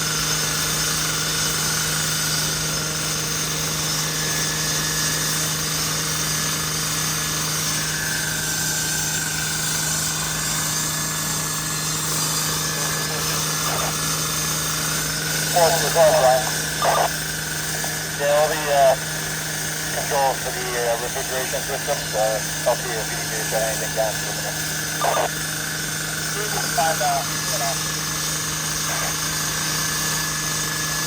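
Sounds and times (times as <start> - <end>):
machinery humming drone: 0.0 - 31.0.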